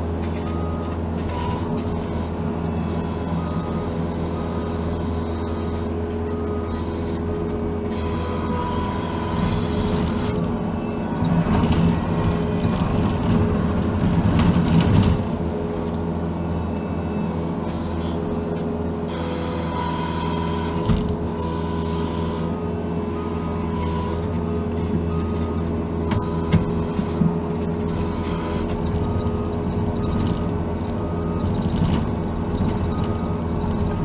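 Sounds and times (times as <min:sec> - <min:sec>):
diesel engine and hydraulics: 0:00.0 - 0:34.0.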